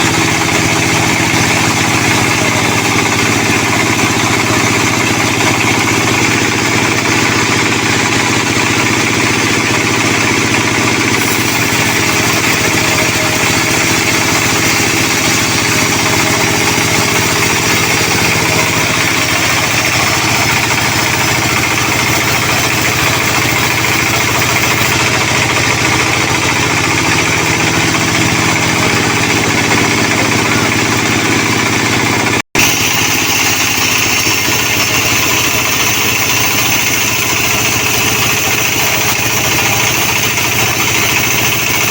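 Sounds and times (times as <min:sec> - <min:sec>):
sawmill machinery sawing logs: 0:00.0 - 0:41.9.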